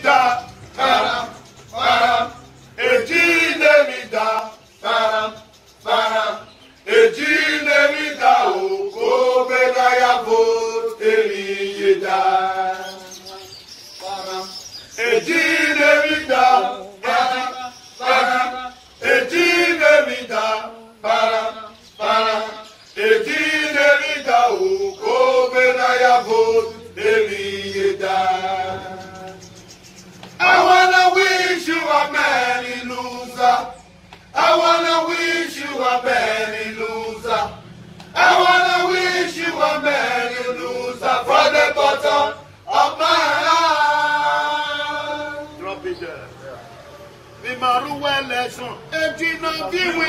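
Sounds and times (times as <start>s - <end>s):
men singing together: 0.0s - 46.4s, 47.0s - 50.0s.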